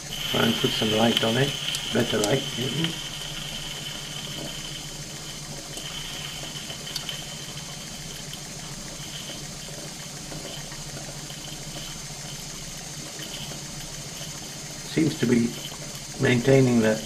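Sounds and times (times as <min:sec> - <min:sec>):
exhaust steam gurgling: 0:00.0 - 0:17.0
steady low hum: 0:00.0 - 0:17.0
steam engine running: 0:00.0 - 0:17.0.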